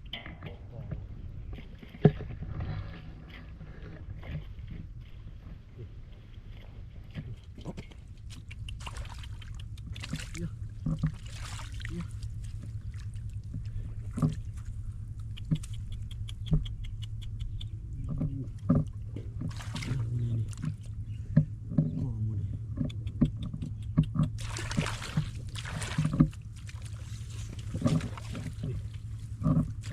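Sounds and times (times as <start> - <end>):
water splashing and sloshing: 0.0 - 16.7, 17.9 - 29.9
steady low rumble: 0.0 - 29.9.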